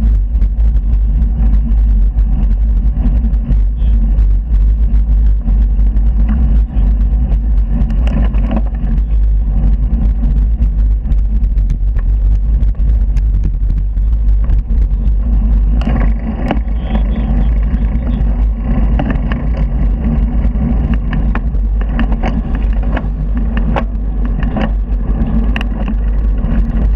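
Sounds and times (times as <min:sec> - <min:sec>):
bicycle clicks and rattles: 0:00.0 - 0:26.9
road noise: 0:00.0 - 0:26.9
wind buffeting microphone: 0:00.0 - 0:26.9.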